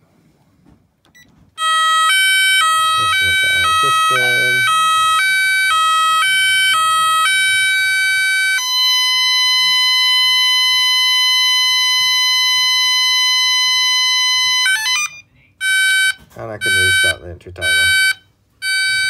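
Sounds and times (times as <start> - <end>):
alarm two-pitch warble: 1.6 - 19.0
steady alarm tone: 1.6 - 19.0.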